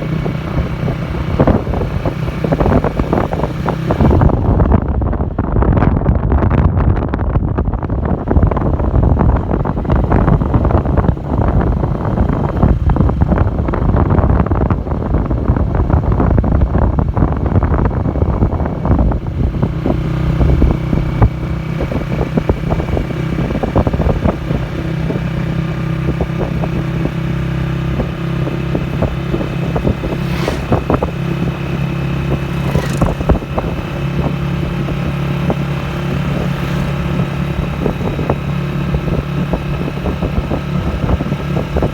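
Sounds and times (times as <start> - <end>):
vehicle engine running: 0.0 - 41.9
wind buffeting microphone: 0.0 - 41.9.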